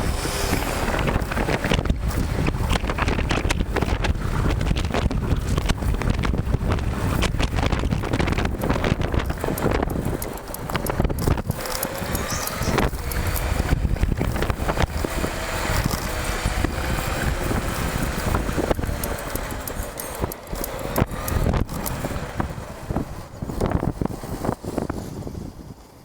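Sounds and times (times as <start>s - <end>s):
road and tyre rumble: 0.0s - 26.0s
wind buffeting microphone: 0.0s - 26.0s.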